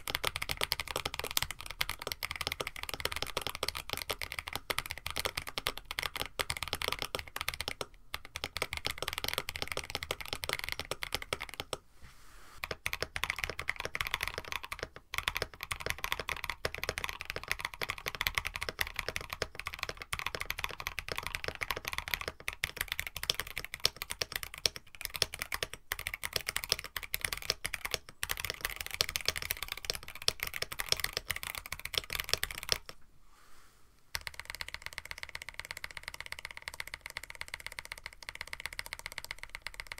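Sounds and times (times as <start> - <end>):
mechanical keyboard typing: 0.0 - 11.8, 12.6 - 33.0, 34.1 - 39.9.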